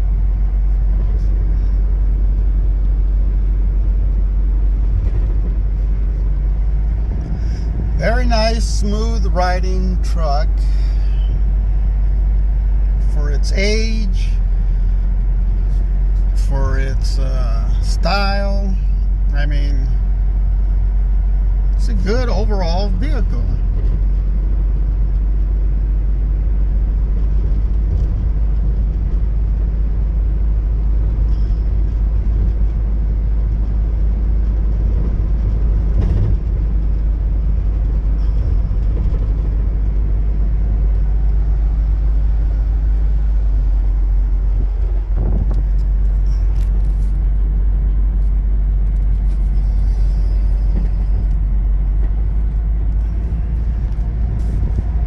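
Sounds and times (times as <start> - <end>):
pickup truck engine running: 0.0 - 55.0
road noise: 0.0 - 55.0.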